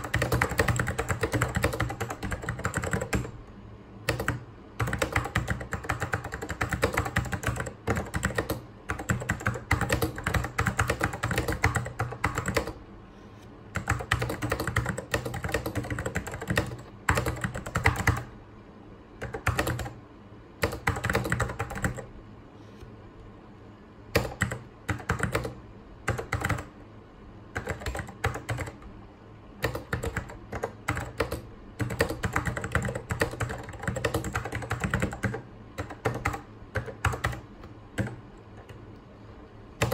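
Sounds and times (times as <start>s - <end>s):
mechanical keyboard typing: 0.0s - 3.4s, 4.0s - 12.8s, 13.7s - 18.3s, 19.2s - 20.0s, 20.6s - 22.1s, 24.1s - 26.7s, 27.5s - 28.8s, 29.6s - 38.8s.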